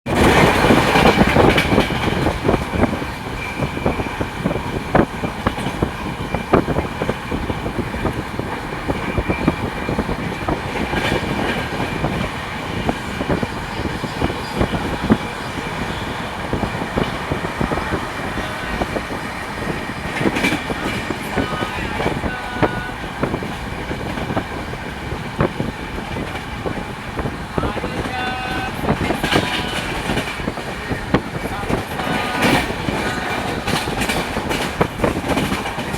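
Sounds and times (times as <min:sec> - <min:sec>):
train rumbling: 0:00.0 - 0:35.9
wheels clattering over rail joints: 0:00.1 - 0:35.9.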